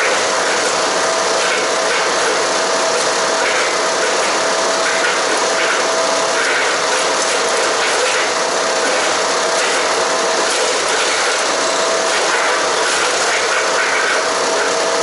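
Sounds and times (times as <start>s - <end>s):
wood chipper shredding branches: 0.0s - 15.0s.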